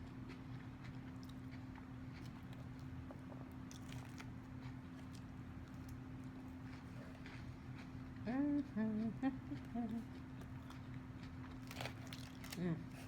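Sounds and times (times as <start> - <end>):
chewing and crunching: 0.0 - 13.0
steady low hum: 0.0 - 13.0.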